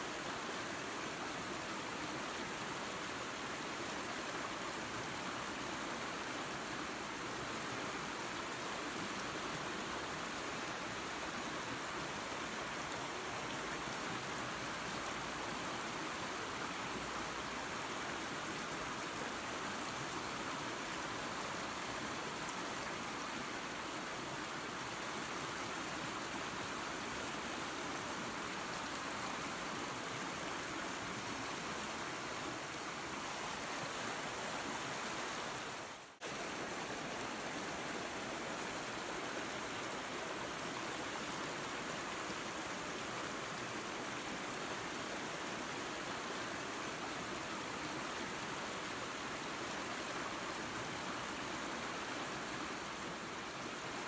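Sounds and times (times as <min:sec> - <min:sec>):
waterfall and creek rushing: 0:00.0 - 0:54.0.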